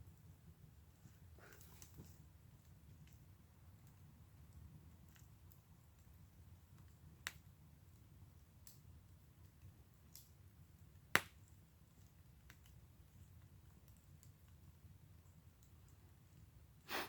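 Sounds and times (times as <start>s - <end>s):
wood fire crackling: 0.0s - 17.0s
fire popping: 0.2s - 17.0s.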